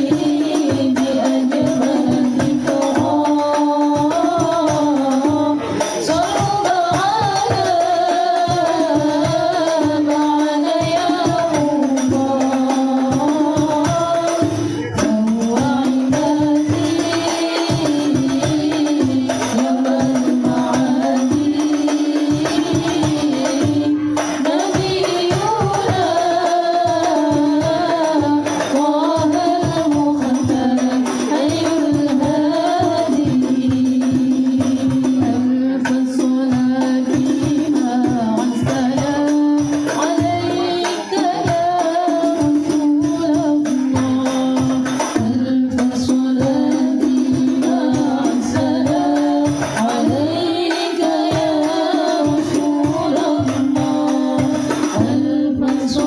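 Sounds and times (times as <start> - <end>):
frame drums beating: 0.0 - 56.0
group singing devotional songs: 0.0 - 56.0.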